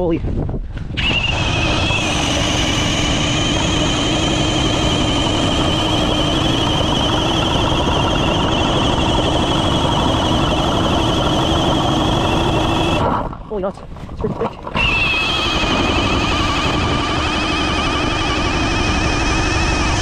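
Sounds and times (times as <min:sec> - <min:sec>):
cordless drill motor whine: 0:00.9 - 0:13.4, 0:14.7 - 0:20.0.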